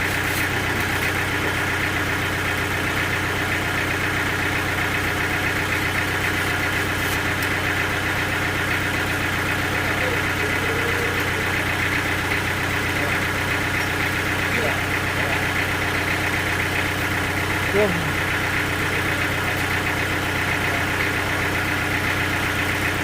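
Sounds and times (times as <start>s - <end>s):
sawmill engine humming: 0.0s - 23.0s.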